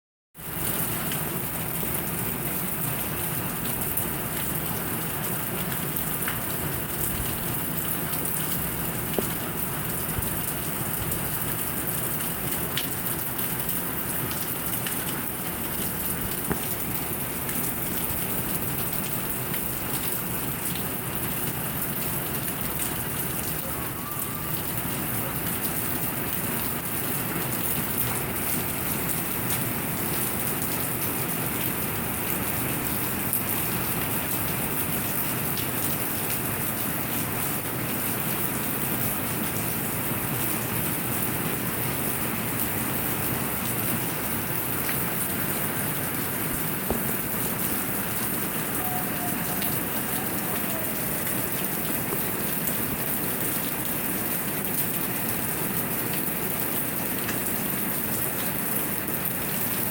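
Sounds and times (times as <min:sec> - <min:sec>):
steady rain falling: 0:00.4 - 0:59.9.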